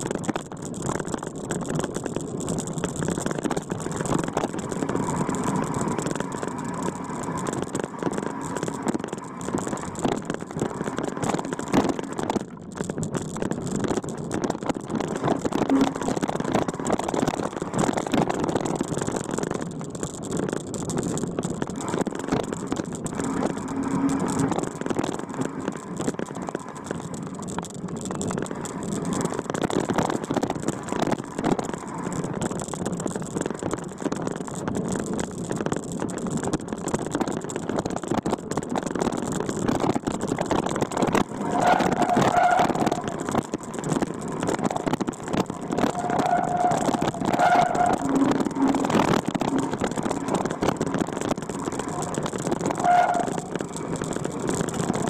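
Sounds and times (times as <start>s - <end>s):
rumble and rattle on bumpy ground: 0.0s - 55.0s
vehicle engine running: 0.0s - 55.0s.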